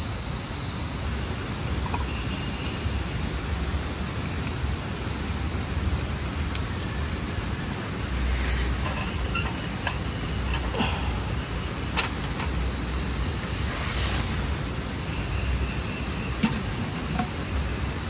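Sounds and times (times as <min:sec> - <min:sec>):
fire burning with crackles: 0:00.9 - 0:18.0.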